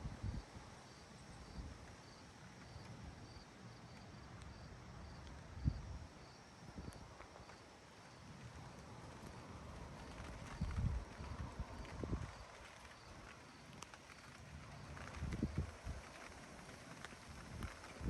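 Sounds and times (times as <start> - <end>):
cricket chirping: 0.9 - 18.0.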